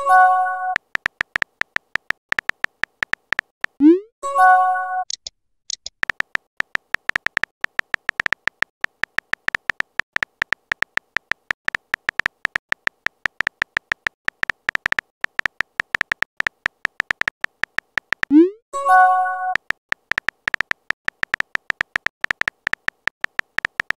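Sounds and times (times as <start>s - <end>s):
phone keyboard typing clicks: 0.0s - 3.9s, 5.1s - 23.9s.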